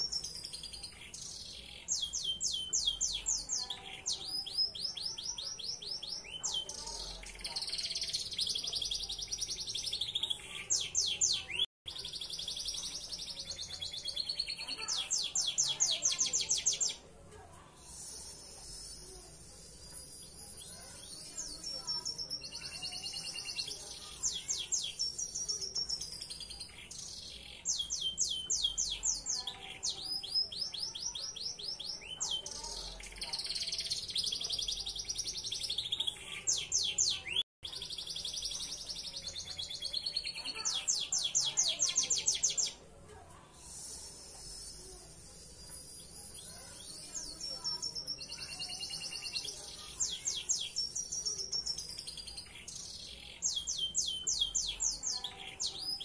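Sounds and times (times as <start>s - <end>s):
canary singing trills: 0.0s - 43.0s, 43.6s - 56.0s.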